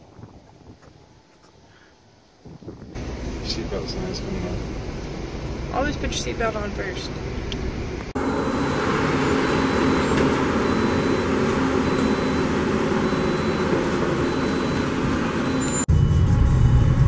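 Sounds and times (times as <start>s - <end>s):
vehicle engine hum: 2.2s - 17.0s.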